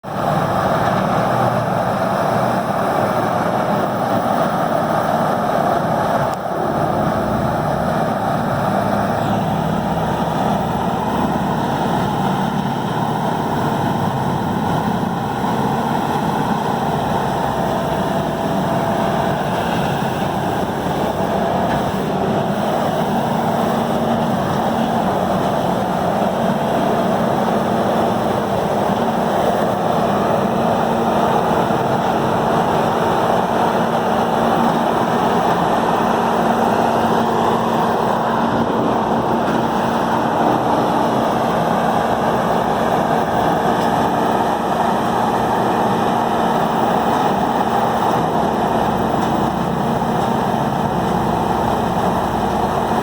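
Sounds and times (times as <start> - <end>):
big engine drone: 0.0 - 53.0.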